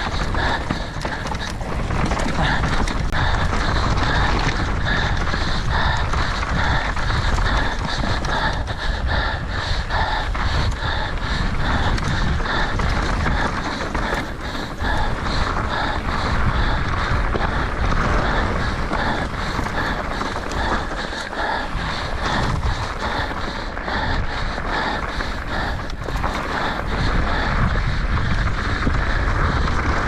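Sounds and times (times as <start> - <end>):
bike tyre rumble: 0.0 - 30.0
person panting heavily: 0.0 - 30.0
wind on microphone: 0.0 - 30.0.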